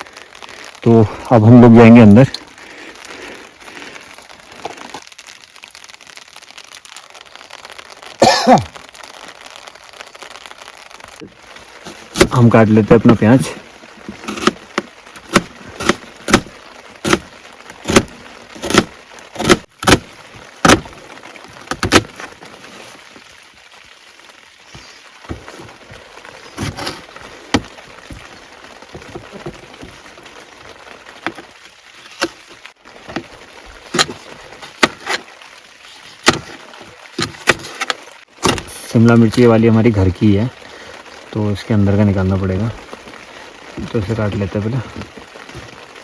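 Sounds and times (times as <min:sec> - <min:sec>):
rain hiss: 0:00.0 - 0:46.0.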